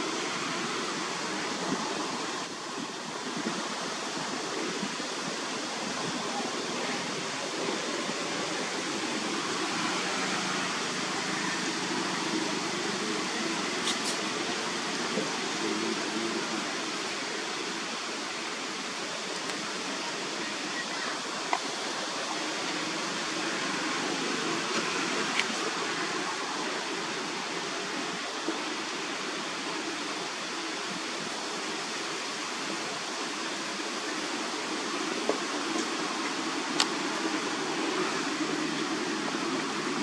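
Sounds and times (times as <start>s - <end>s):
steady rushing noise: 0.0s - 40.0s.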